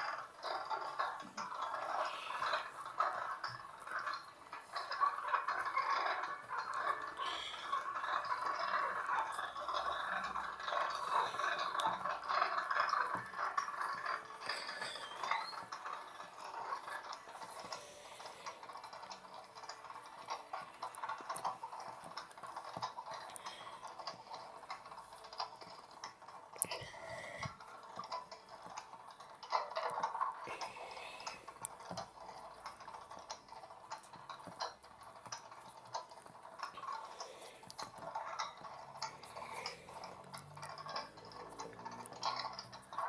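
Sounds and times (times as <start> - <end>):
light clicks and rattles: 0.0 - 43.0
water sloshing in washing machine: 0.0 - 43.0.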